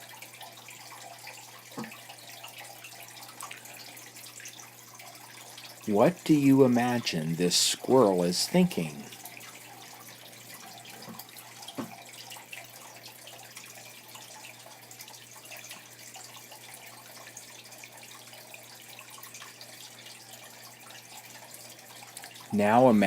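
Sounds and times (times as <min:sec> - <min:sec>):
water trickling: 0:00.0 - 0:23.0.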